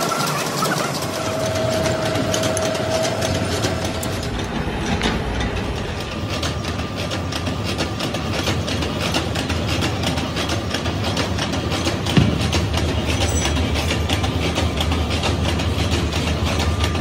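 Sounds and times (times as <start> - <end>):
steady machine whine: 0.0 - 17.0.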